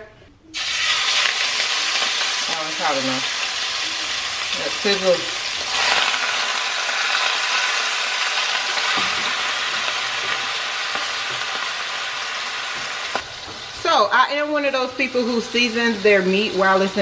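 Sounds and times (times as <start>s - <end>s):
meat sizzling in hot oil: 0.6s - 14.4s.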